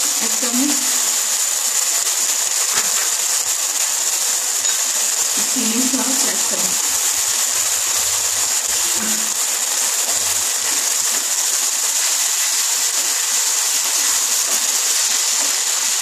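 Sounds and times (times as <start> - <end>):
vegetables sizzling in pan: 0.0 - 16.0.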